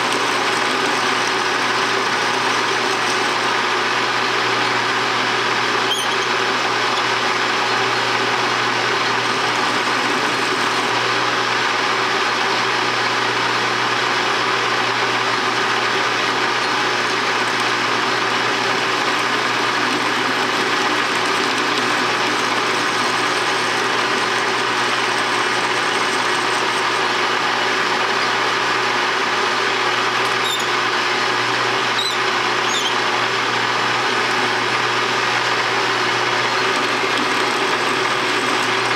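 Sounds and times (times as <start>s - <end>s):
metal lathe running: 0.0s - 38.9s.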